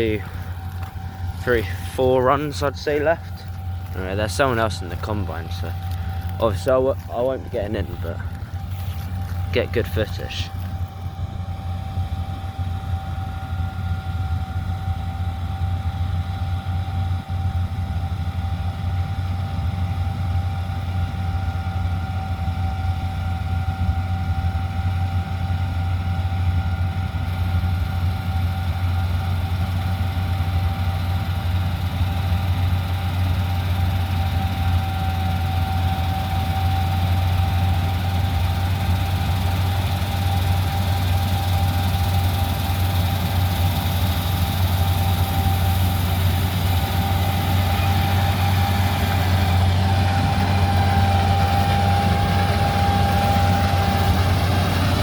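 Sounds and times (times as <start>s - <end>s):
heavy engine droning with whine: 0.0s - 55.0s.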